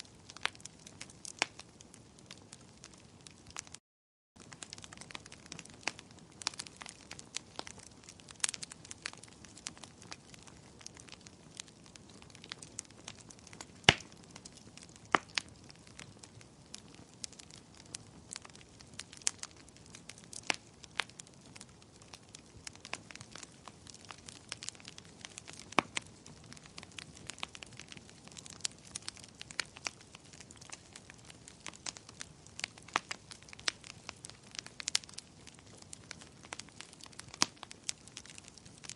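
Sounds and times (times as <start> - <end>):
wood fire crackling: 0.0 - 3.8, 4.4 - 38.9.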